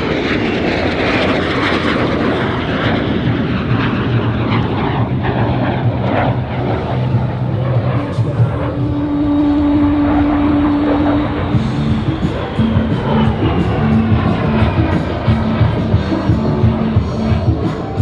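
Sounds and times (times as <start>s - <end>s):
jet aircraft flying past: 0.0s - 18.0s.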